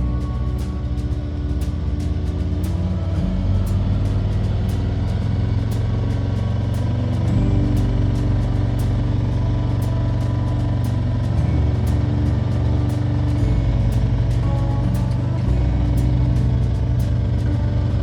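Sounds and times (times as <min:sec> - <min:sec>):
background music with beat: 0:00.0 - 0:18.0
motorcycle engine running: 0:00.0 - 0:18.0.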